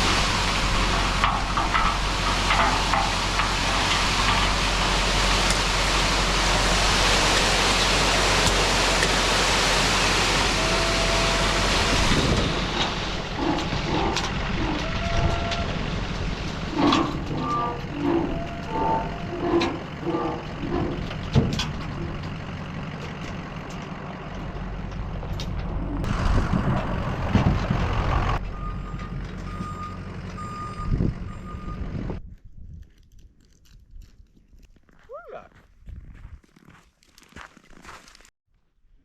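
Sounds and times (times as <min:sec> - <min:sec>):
truck engine running: 0:00.0 - 0:32.2.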